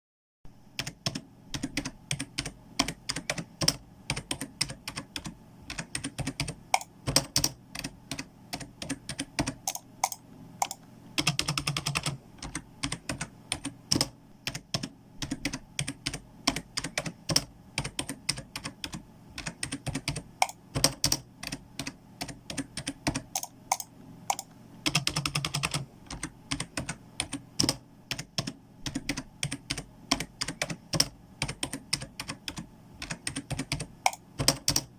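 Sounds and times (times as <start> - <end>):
typing on computer keyboard: 0.8 - 34.9.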